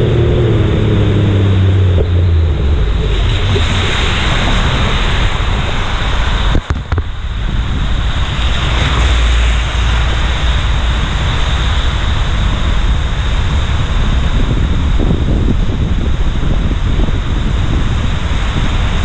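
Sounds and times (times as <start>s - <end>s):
rain: 0.0s - 19.0s
wind buffeting microphone: 0.0s - 19.0s
wet road spray: 2.6s - 19.0s.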